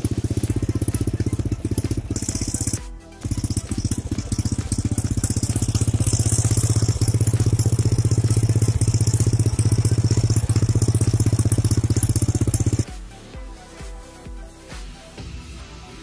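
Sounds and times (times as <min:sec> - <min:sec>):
small engine chugging steadily: 0:00.0 - 0:13.0.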